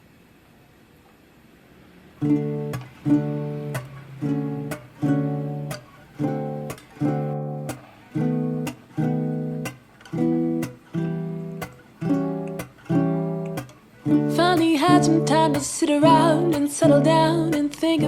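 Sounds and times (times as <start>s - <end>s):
acoustic guitar strumming chords: 2.2s - 18.0s.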